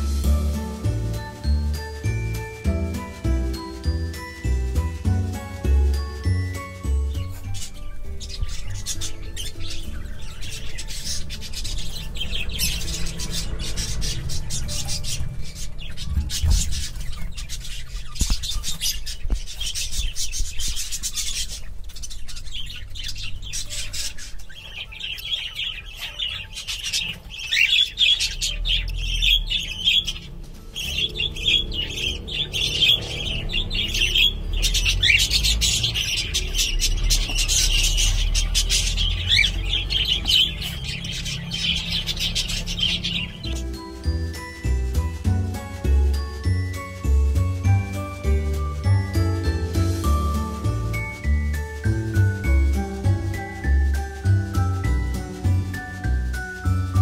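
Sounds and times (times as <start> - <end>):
cockatiels chirping and squawking: 0.0 - 57.0.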